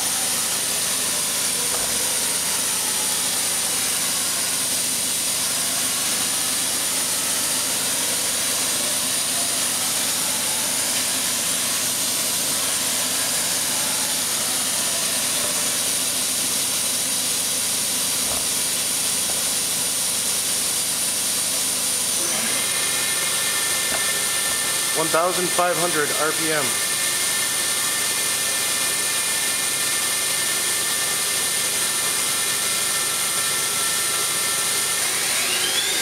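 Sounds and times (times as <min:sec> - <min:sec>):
machine hiss with high whine: 0:00.0 - 0:36.0.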